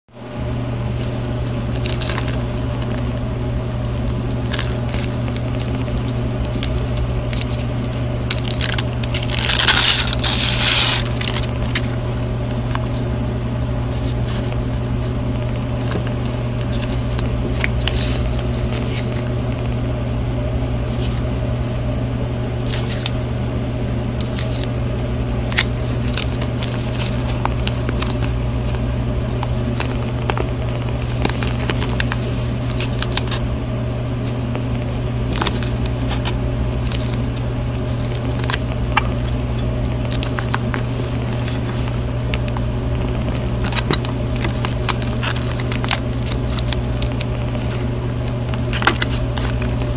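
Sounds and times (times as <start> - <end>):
steady low hum: 0.1 - 49.9
plastic film crackling: 0.9 - 21.4, 22.6 - 23.2, 23.9 - 49.9.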